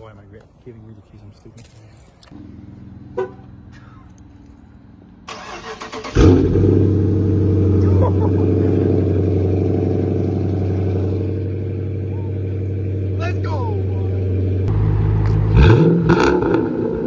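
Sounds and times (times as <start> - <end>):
car engine cranking and idling: 2.2 - 17.0.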